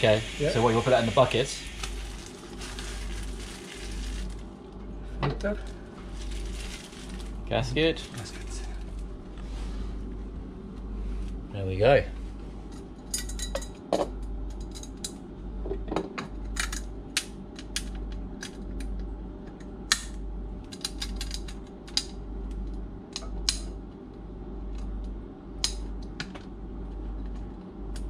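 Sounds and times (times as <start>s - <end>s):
low machinery hum: 0.0s - 28.0s.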